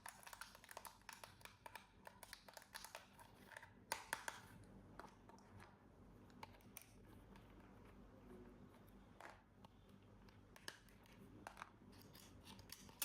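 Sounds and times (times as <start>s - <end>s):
plastic parts clicking and crinkling: 0.0s - 8.0s, 8.8s - 13.0s.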